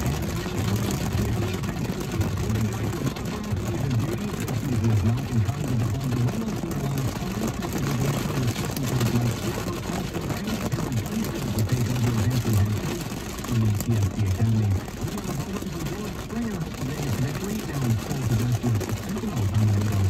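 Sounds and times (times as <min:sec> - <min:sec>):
heavy rain on car windshield: 0:00.0 - 0:20.0.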